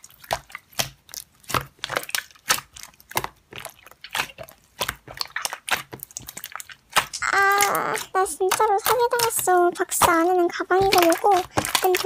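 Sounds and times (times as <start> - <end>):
slime clicking and popping: 0.1 - 12.0.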